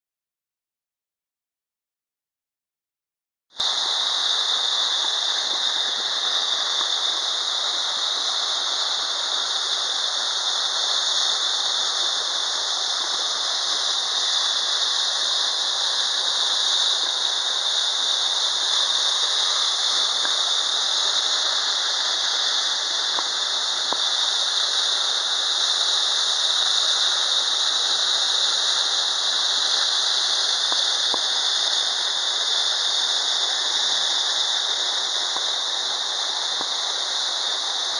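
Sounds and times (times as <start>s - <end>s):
waterfall rushing: 3.6s - 37.9s.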